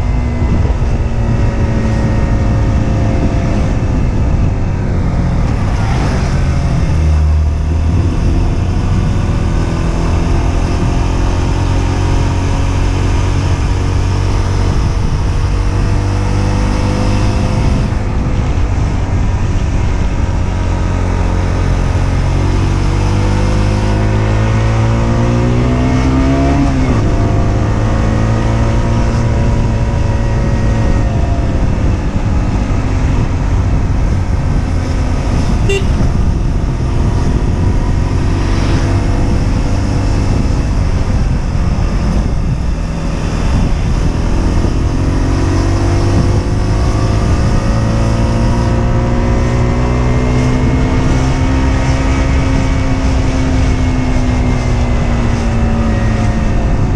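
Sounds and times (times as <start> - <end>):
motorcycle engine revving: 0.0 - 56.9
road noise: 0.0 - 56.9.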